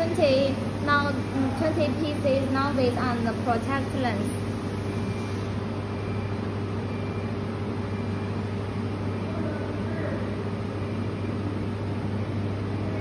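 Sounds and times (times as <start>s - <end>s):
welding machine hum and fan: 0.0s - 13.0s.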